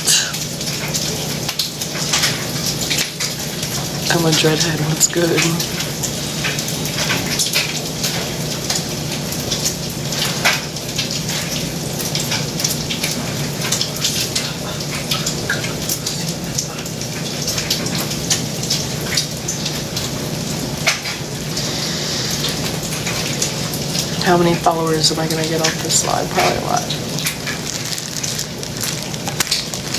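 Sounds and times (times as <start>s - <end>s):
food sizzling in a pan: 5.1s - 29.9s.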